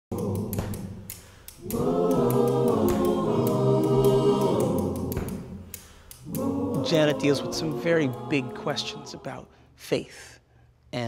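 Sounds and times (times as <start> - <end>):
choir singing sustained chords: 0.1 - 9.8.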